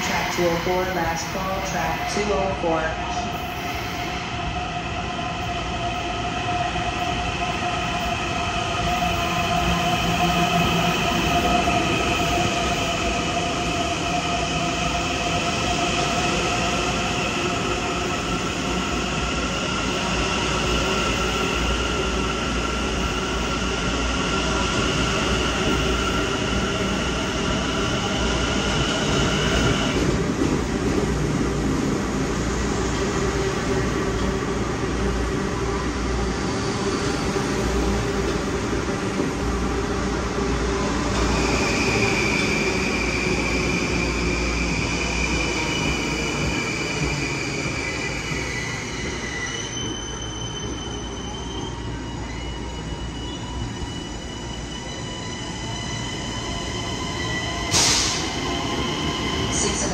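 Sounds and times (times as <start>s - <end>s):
train whining and squealing: 0.0s - 59.9s.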